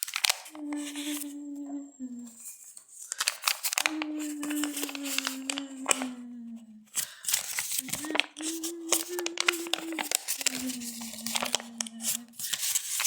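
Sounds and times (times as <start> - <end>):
crackling and rustling: 0.0 - 1.6, 2.2 - 13.0.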